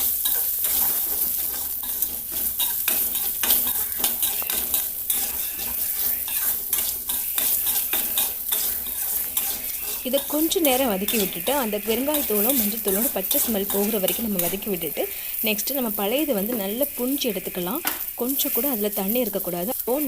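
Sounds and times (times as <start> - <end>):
food sizzling in hot oil: 0.0 - 20.0
spoon stirring and scraping pan: 0.0 - 20.0.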